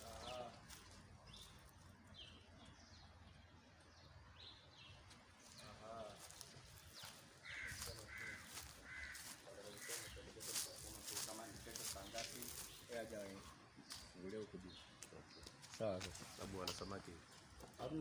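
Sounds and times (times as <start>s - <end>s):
distant birds chirping: 0.0s - 18.0s.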